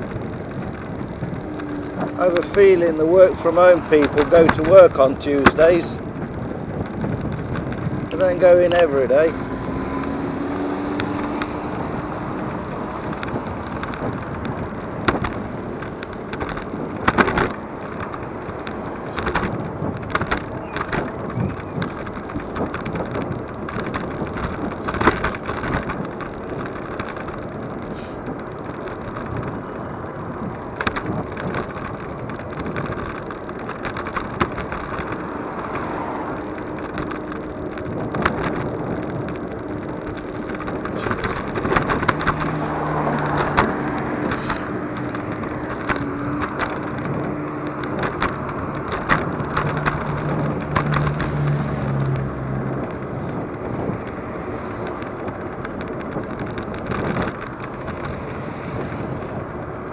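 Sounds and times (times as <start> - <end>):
knocks and rattles over bumps: 0.0 - 59.9
scooter wheels rumbling on tarmac: 0.0 - 59.9.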